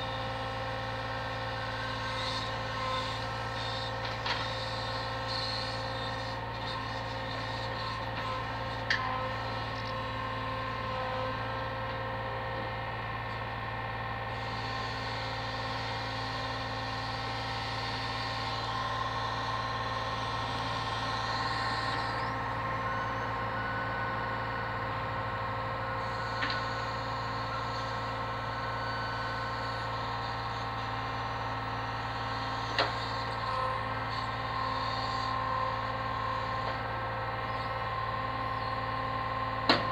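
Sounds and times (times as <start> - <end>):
hydraulic crane hum: 0.1 - 39.9.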